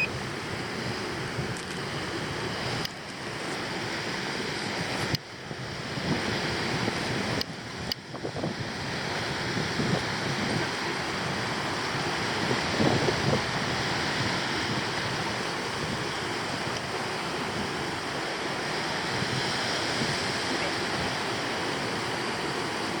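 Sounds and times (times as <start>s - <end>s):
surf washing on a beach: 0.0s - 23.0s
wind on the microphone: 0.0s - 23.0s.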